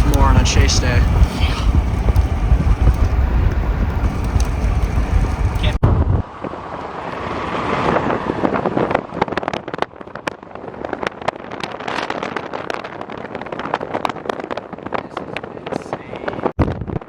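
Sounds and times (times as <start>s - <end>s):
wind and car noise: 0.0s - 17.0s.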